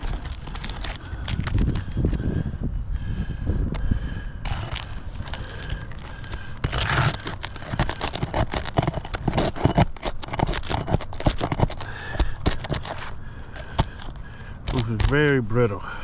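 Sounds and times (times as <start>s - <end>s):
roof shingle scraping and crackling: 0.0s - 2.2s, 4.4s - 16.0s.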